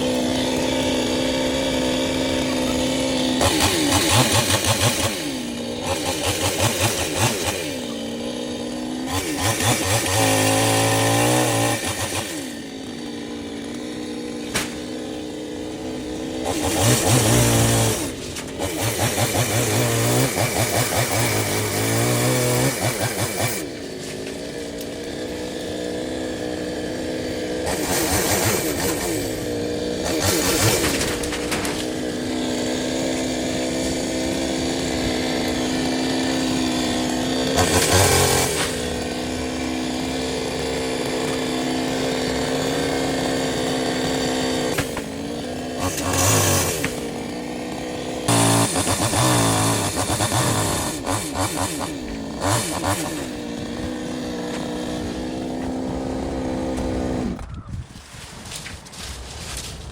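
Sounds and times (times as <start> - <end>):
chainsaw engine revving: 0.0 - 57.5.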